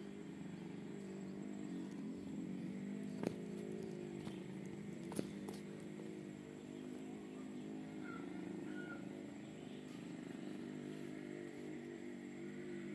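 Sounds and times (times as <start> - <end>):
low mechanical engine drone: 0.0 - 12.9.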